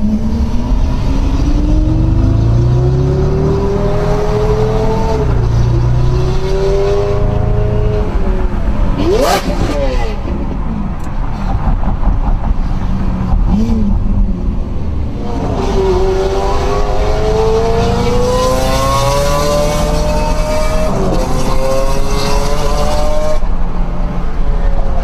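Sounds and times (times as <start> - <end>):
car engine accelerating: 0.0 - 23.6
road rumble: 0.0 - 25.0.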